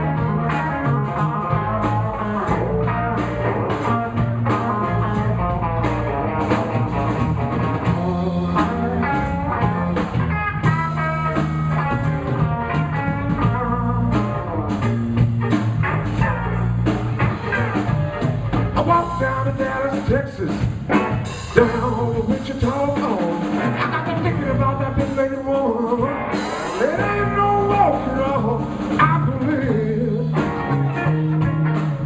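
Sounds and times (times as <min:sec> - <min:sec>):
blues band playing: 0:00.0 - 0:32.0
lead guitar runs: 0:00.0 - 0:32.0.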